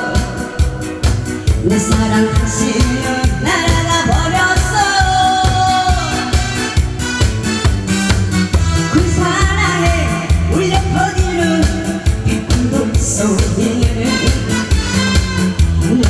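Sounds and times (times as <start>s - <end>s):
person singing: 0.0s - 6.7s, 8.8s - 16.0s
backing track with fast beat: 0.0s - 16.0s.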